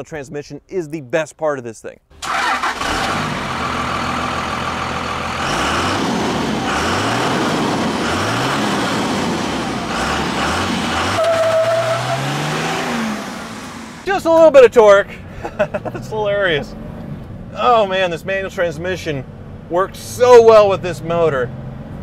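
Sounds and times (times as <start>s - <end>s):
diesel truck engine revving: 2.2s - 14.1s, 15.2s - 22.0s.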